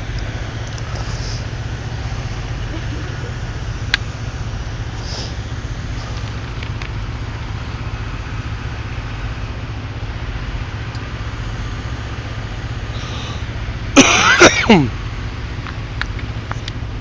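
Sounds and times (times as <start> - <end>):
truck diesel engines idling: 0.0 - 17.0.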